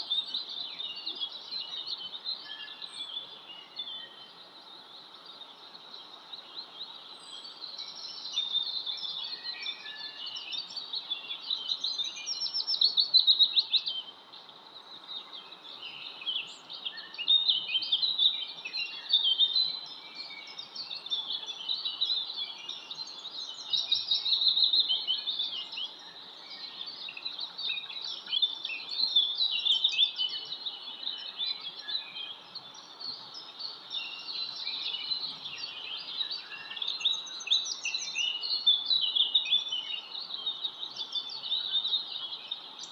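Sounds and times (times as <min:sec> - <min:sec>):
faint steady hiss: 0:00.0 - 0:42.9
small birds chirping: 0:00.0 - 0:42.9.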